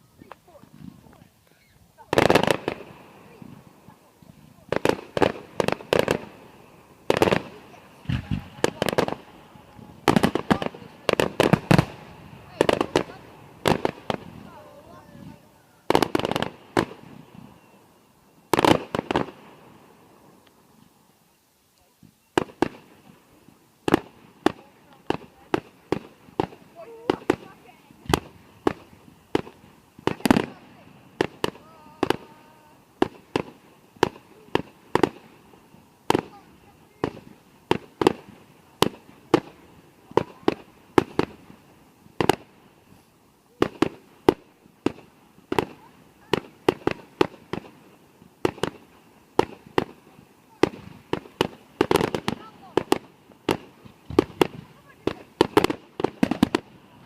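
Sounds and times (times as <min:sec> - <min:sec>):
fireworks bangs: 0:00.0 - 0:20.4, 0:22.0 - 0:57.0.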